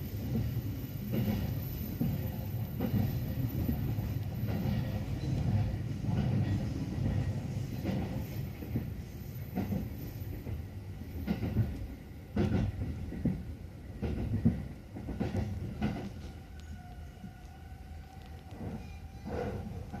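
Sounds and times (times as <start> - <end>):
trains rumbling: 0.0 - 20.0.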